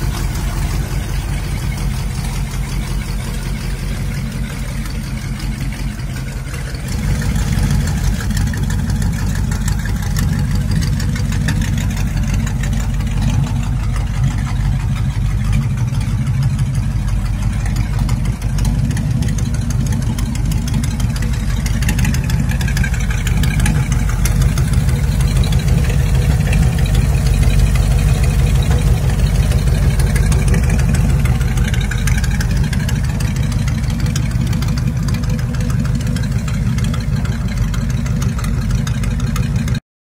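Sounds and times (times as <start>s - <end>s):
car engine idling: 0.0s - 39.8s.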